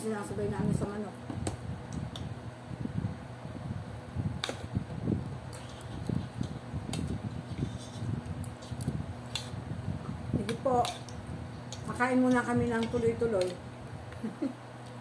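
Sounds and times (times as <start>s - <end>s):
low electric hum: 0.0s - 15.0s.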